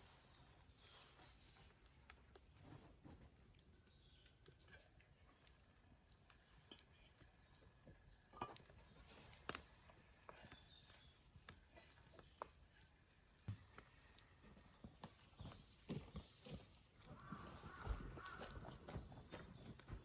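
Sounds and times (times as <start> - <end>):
faint clicks and taps: 1.4 - 20.0.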